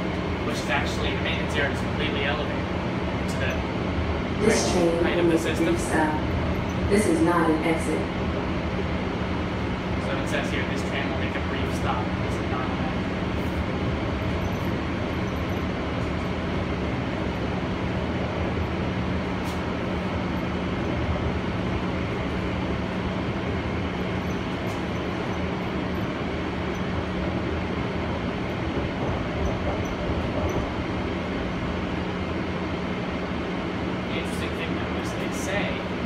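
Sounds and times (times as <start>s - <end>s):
people-mover car rumbling on guideway: 0.0s - 36.0s.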